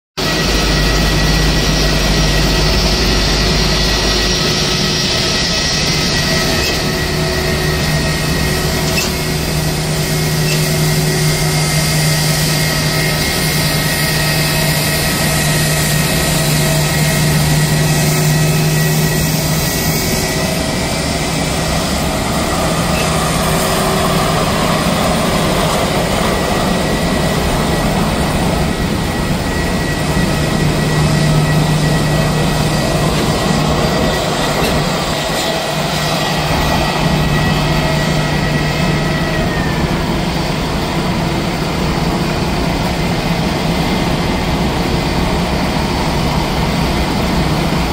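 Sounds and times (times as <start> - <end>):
jet engine high whine: 0.2 - 47.9
jet engines hum: 0.2 - 47.9.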